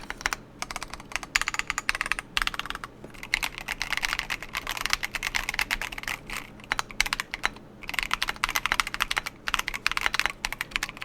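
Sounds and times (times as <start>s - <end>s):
fast typing on mechanical keyboard: 0.0s - 11.0s.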